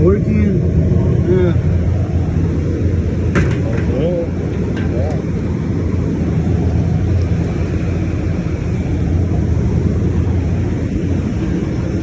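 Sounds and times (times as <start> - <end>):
compressor low hum: 0.0 - 12.0
condenser fan rushing: 0.0 - 12.0.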